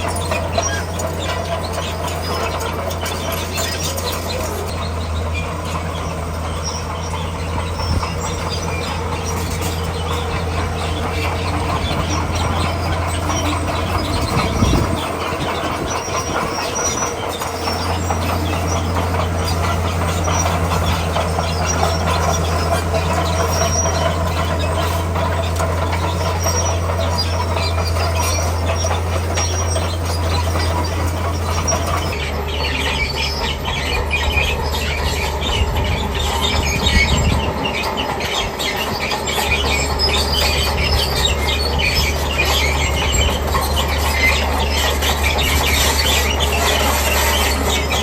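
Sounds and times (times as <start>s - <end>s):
bulldozer diesel engine running: 0.0s - 48.0s
steel tracks clanking and squealing: 0.0s - 48.0s.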